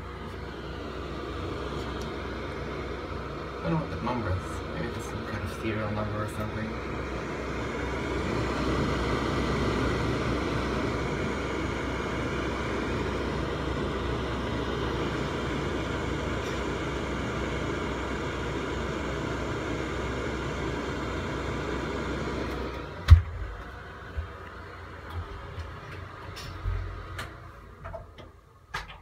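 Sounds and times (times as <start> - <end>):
exhaust fan running: 0.0 - 29.0.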